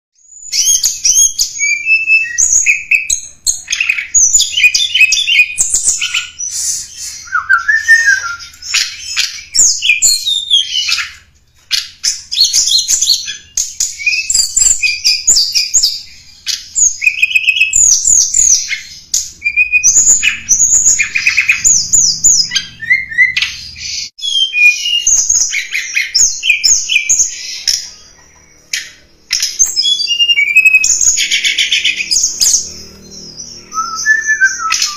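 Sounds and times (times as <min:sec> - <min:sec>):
bird song of chirps and trills: 0:00.2 - 0:34.9.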